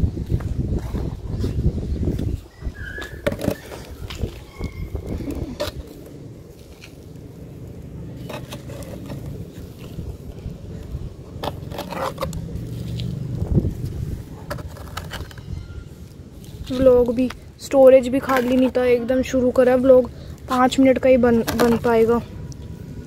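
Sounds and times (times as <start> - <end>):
steady low rumble: 0.0 - 2.8, 3.8 - 23.0.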